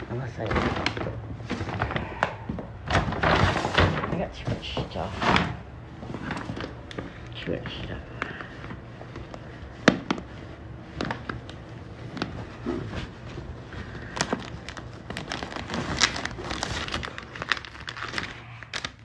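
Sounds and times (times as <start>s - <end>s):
rustling in a bag: 0.3s - 19.0s.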